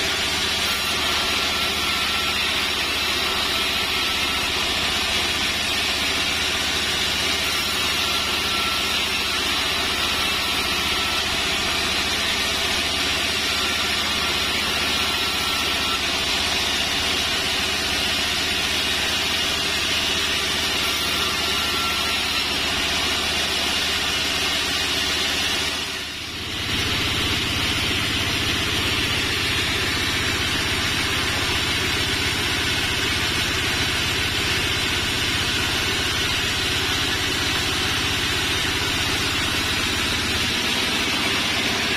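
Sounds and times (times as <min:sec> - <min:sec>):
band saw cutting timber: 0:00.0 - 0:41.9.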